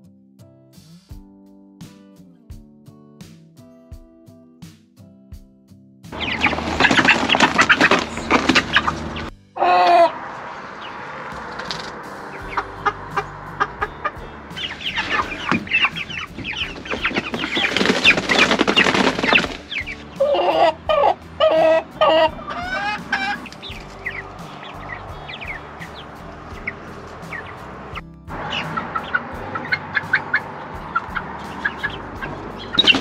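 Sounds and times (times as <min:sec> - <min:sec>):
chickens clucking: 0:06.2 - 0:33.0.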